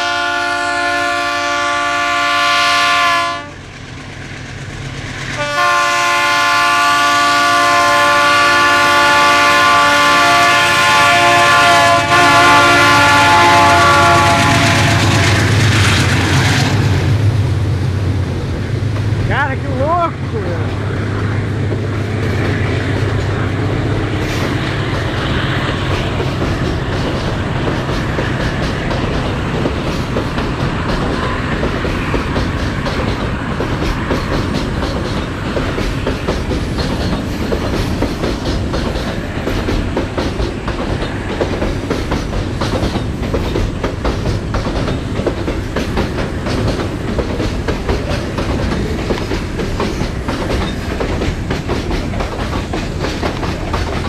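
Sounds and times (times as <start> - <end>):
rumble of train wheels on rail: 0.0 - 54.0
wheels clickety-clack over rail joints: 0.0 - 54.0.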